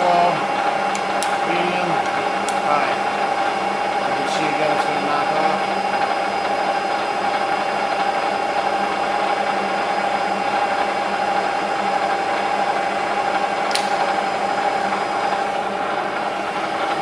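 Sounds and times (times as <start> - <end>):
milling machine whine and hum: 0.0 - 17.0.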